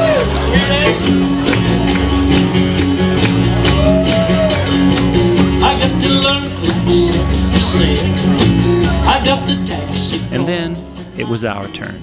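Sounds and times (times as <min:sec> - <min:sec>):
acoustic guitar country music: 0:00.0 - 0:12.0.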